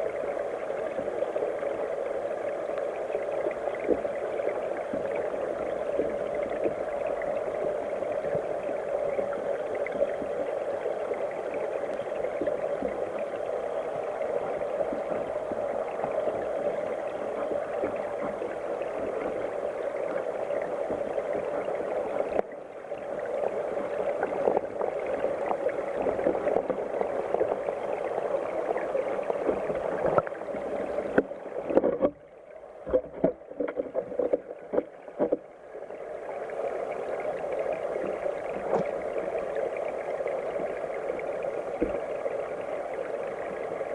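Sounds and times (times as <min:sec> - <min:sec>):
stream rushing and gurgling: 0:00.0 - 0:43.9
water splashes: 0:00.0 - 0:43.9.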